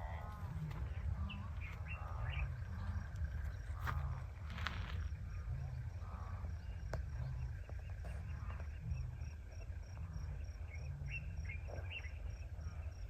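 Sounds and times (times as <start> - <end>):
animals grunting: 0.0 - 13.0
insects chirping: 0.0 - 13.0.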